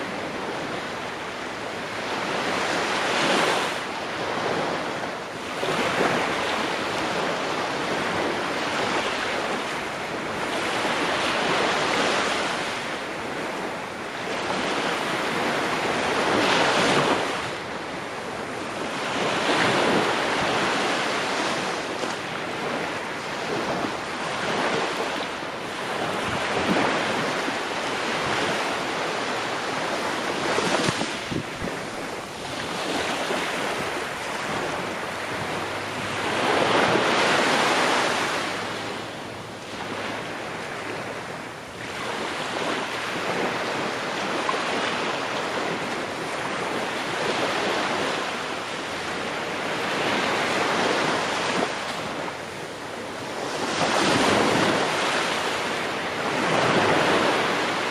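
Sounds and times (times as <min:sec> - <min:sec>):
ocean waves breaking on shore: 0:00.0 - 0:57.9
wind: 0:00.0 - 0:57.9.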